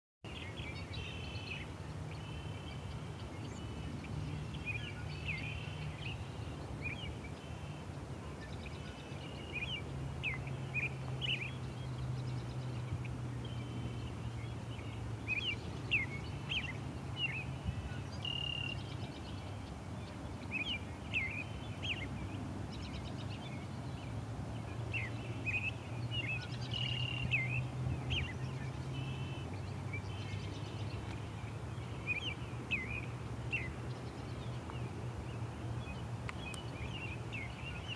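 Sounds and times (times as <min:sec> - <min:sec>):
river rushing: 0:00.3 - 0:37.9
small birds chirping: 0:00.3 - 0:37.9.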